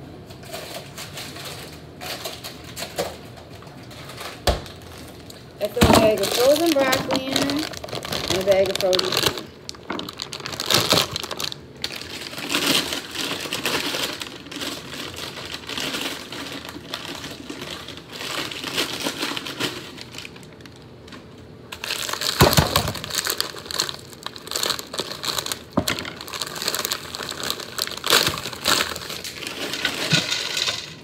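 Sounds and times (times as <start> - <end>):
plastic bags crinkling: 0.2 - 31.0.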